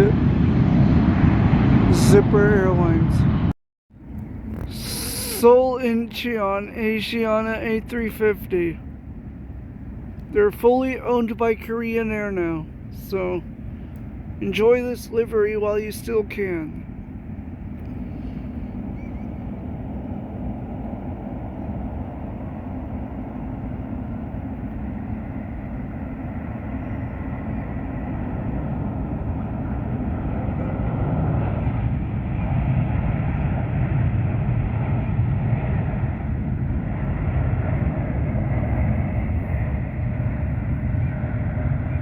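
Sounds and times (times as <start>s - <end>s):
jet engines rumbling overhead: 0.0s - 42.0s.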